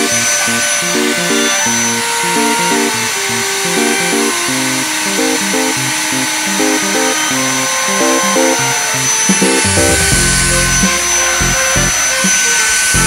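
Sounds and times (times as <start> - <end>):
music with low notes: 0.0 - 13.0
vacuum cleaner running: 0.0 - 13.0.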